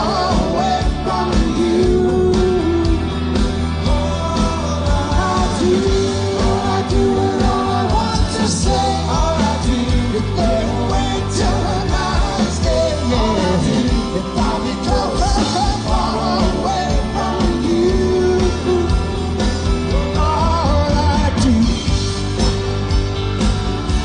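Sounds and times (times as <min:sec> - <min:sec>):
bass: 0:00.0 - 0:24.0
drums: 0:00.0 - 0:24.0
rock band playing live: 0:00.0 - 0:24.0.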